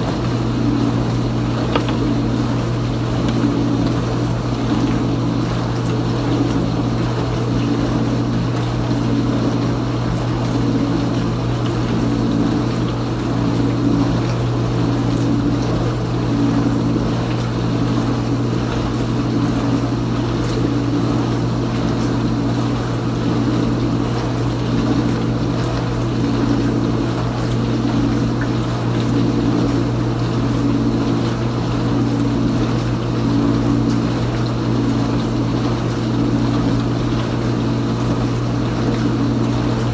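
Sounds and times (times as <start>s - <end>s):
water spraying inside dishwasher: 0.0s - 9.1s, 9.8s - 39.9s
dishwasher motor hum: 0.0s - 39.9s.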